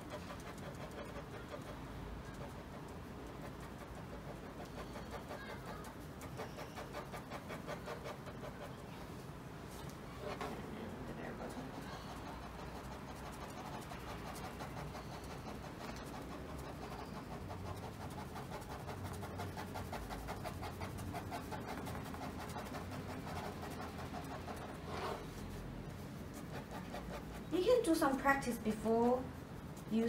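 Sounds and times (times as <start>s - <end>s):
ballpoint pen scratching on paper: 0.0s - 9.0s, 10.0s - 30.0s.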